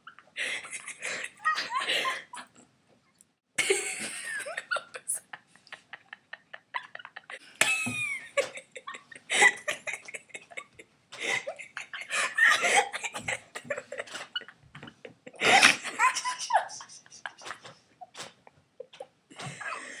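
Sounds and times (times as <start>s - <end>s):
girls laughing: 0.0s - 2.5s, 3.6s - 18.2s, 18.8s - 20.0s.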